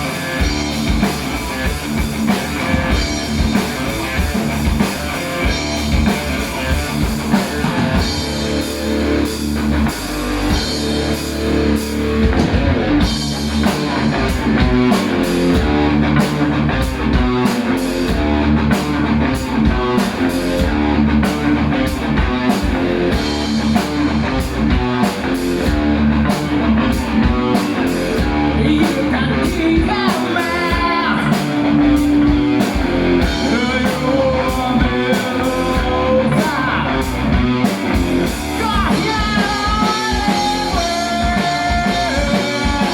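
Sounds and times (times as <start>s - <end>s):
heavy metal band playing live: 0.0s - 42.9s.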